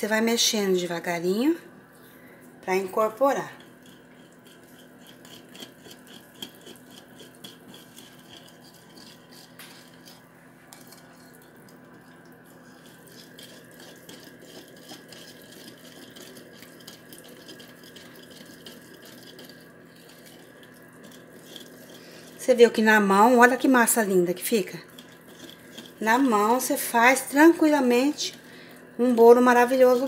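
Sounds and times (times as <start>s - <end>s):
whisk beating batter in glass bowl: 2.9s - 28.4s.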